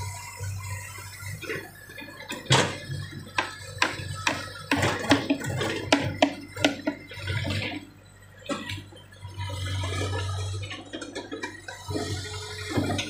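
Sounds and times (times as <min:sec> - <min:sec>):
diesel engine hum: 0:00.0 - 0:13.0.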